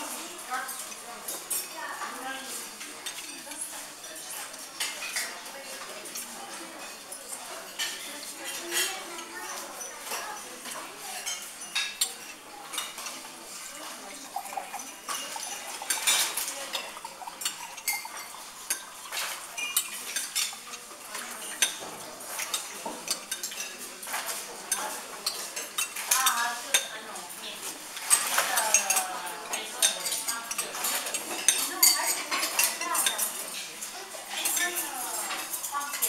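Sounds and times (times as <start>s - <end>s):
cutlery clinking on china: 0.3s - 36.0s.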